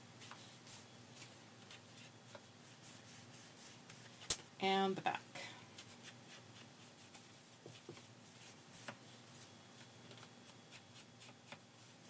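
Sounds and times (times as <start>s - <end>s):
rubbing and dabbing on card: 0.2s - 4.3s, 5.8s - 12.0s.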